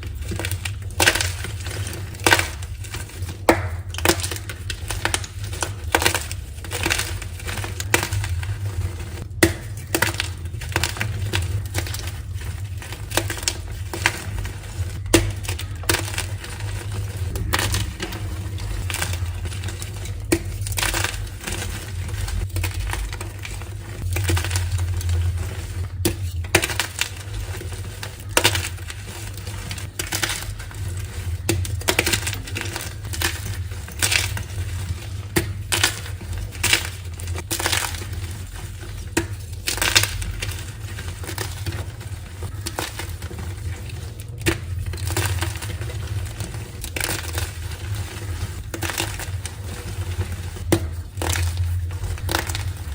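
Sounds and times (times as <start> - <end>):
chalk crushed by hand: 0.0 - 52.9.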